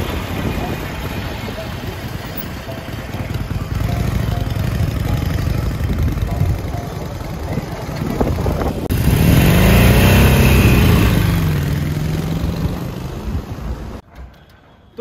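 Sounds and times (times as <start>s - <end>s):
motorcycle engine passing by: 0.1s - 14.0s.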